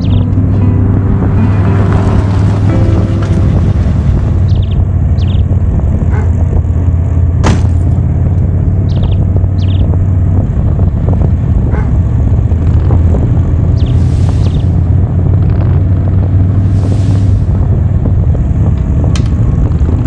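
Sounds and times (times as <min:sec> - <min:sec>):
motorcycle engine cruising: 0:00.0 - 0:20.0
wind noise on microphone: 0:00.0 - 0:20.0.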